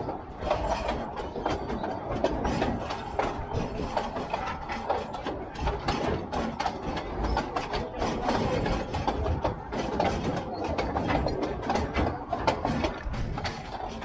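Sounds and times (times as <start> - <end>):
railway carriage rattling: 0.0 - 14.0.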